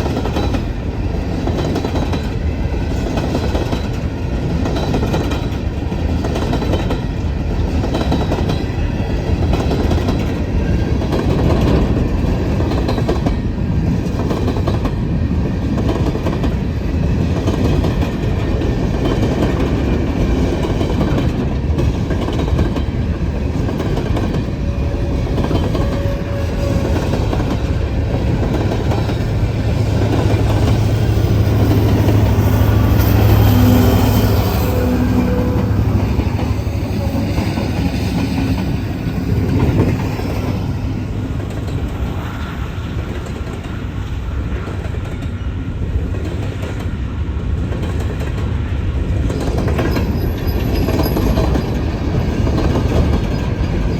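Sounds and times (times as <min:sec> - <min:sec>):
wheels clacking over rail joints: 0:00.0 - 0:43.8, 0:46.0 - 0:53.9
freight train rumbling past: 0:00.0 - 0:53.9.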